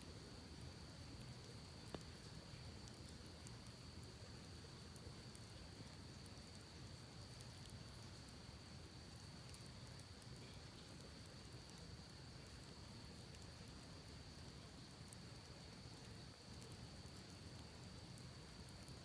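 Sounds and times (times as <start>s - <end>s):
campfire crackling: 0.1s - 19.0s.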